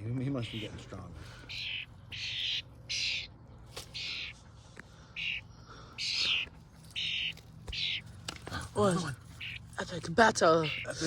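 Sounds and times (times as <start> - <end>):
bird harsh calls: 0.0 - 11.0.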